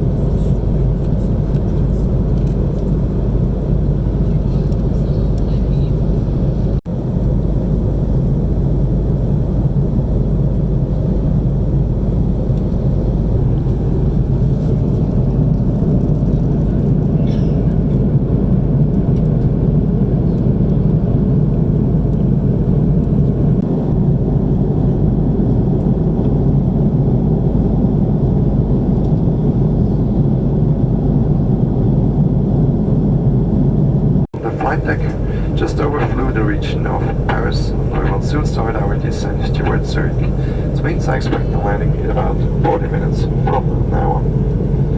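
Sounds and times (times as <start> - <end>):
airplane cabin drone: 0.0 - 44.9.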